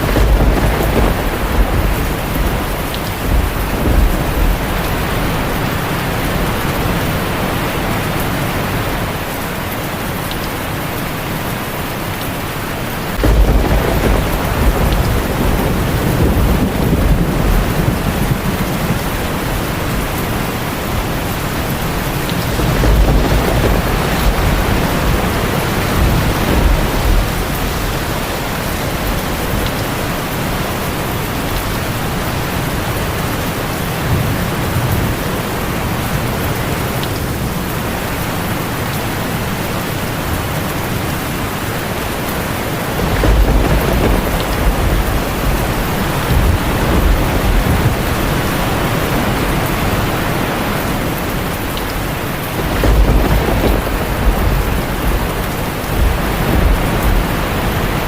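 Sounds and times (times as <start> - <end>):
heavy rain on a tin roof: 0.0 - 58.0
thunder rumbling: 0.0 - 58.0.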